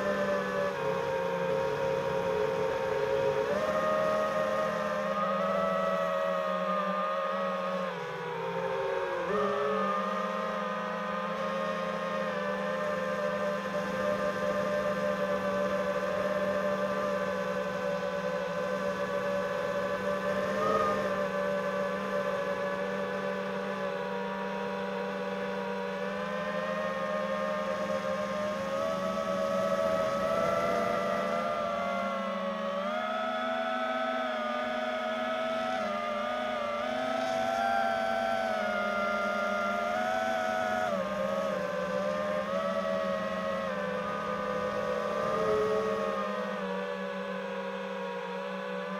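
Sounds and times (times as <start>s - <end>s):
quadcopter motors whining: 0.0s - 48.9s.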